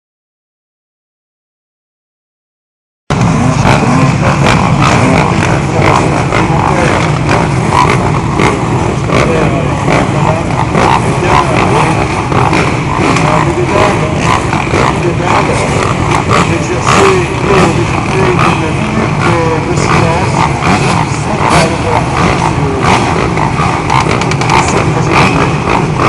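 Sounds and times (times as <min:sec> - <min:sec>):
motorcycle engines revving: 0:03.1 - 0:26.0.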